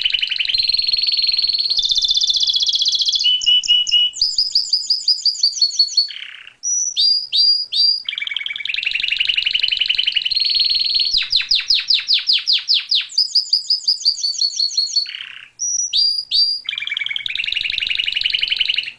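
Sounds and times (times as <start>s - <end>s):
songbird singing rapid trills: 0.0s - 18.9s.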